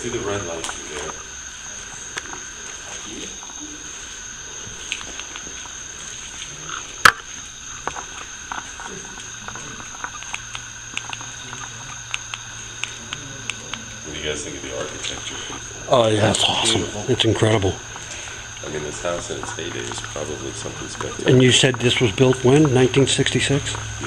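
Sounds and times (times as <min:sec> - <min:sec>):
high-pitched whine: 0:00.0 - 0:24.0.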